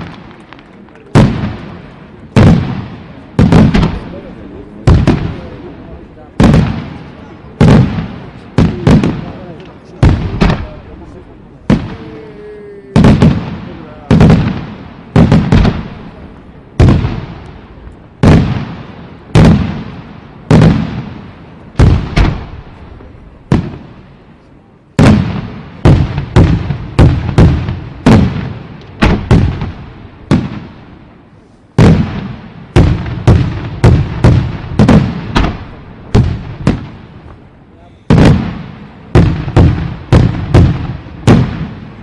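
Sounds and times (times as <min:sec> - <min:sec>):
fireworks booming: 0:00.0 - 0:42.0.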